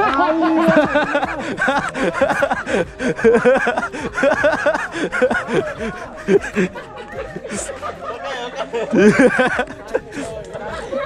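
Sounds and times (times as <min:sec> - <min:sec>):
people laughing and chattering: 0:00.0 - 0:11.0.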